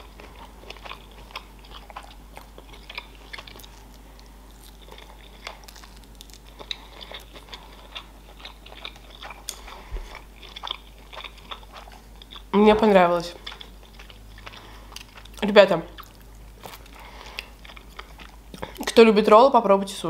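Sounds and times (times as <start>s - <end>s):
close chewing: 0.0s - 12.5s, 13.3s - 19.0s.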